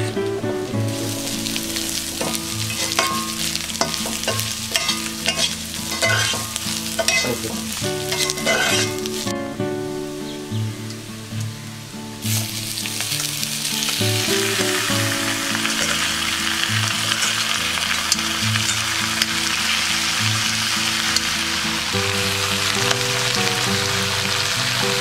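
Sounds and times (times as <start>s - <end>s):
background music: 0.0s - 25.0s
food sizzling in hot oil: 0.8s - 9.4s, 12.2s - 25.0s.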